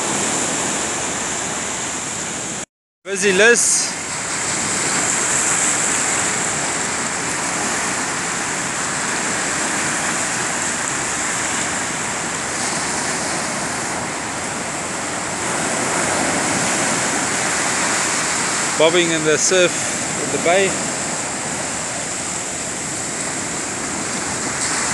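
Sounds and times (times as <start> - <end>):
ocean surf breaking: 0.0 - 24.9.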